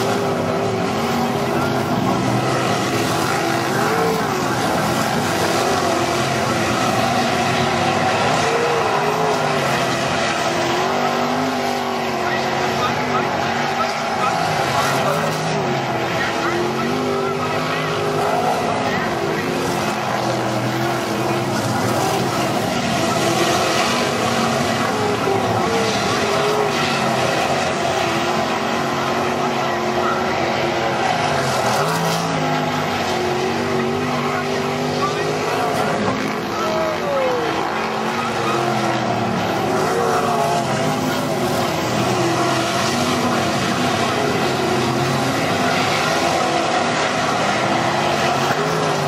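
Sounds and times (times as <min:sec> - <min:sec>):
race car engines droning: 0:00.0 - 0:49.0.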